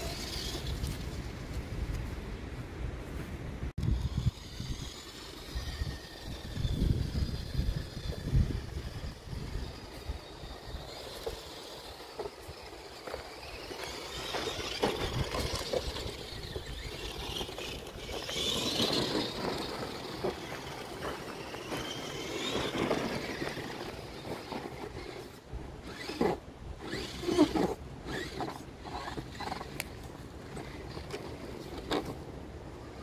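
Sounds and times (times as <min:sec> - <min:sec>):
electric motor whining: 0:03.8 - 0:32.1
tyres rumbling on ground: 0:03.8 - 0:33.0
knocks and scrapes: 0:04.0 - 0:32.2.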